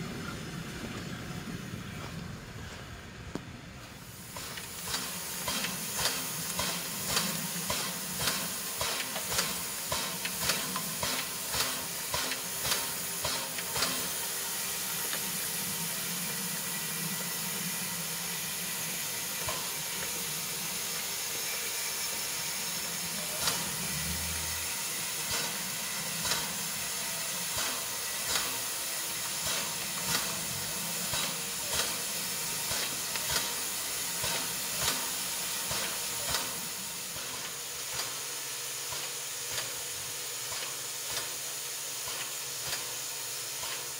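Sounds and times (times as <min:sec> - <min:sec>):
steam hissing: 0:00.0 - 0:43.9
steam locomotive puffs: 0:00.0 - 0:43.9.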